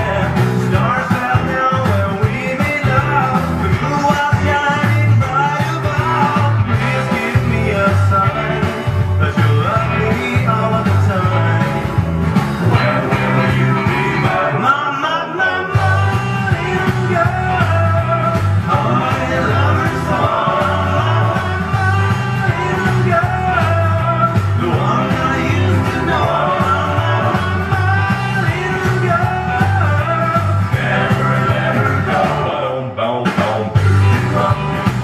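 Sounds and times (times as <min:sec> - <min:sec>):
person singing: 0:00.0 - 0:11.8, 0:12.7 - 0:35.0
repeating bass rhythm: 0:00.0 - 0:14.8, 0:15.7 - 0:32.6, 0:33.3 - 0:35.0
rock and roll song: 0:00.0 - 0:35.0.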